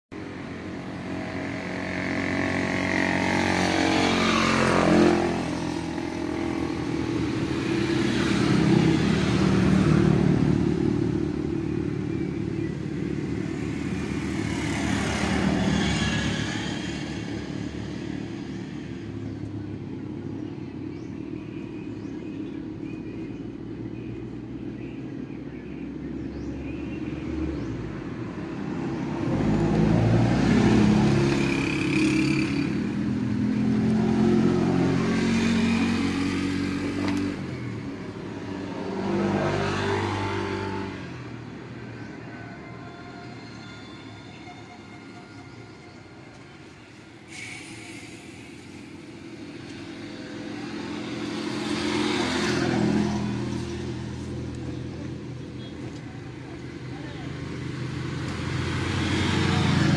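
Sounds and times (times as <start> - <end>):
vehicles passing by: 0.1 - 59.9.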